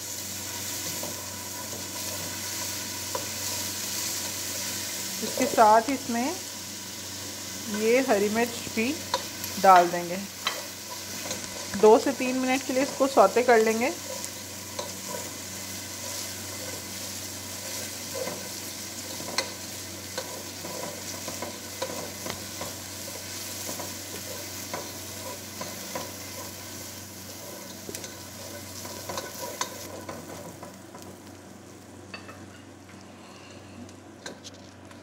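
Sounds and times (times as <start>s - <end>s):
food sizzling in hot oil: 0.0s - 32.3s.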